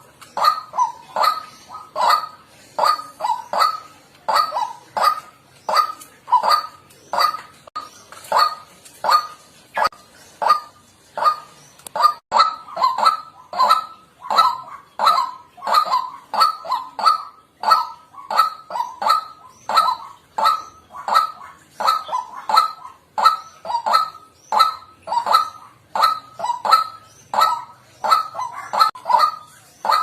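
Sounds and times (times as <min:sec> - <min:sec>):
waterhen harsh calls: 0:00.0 - 0:30.0.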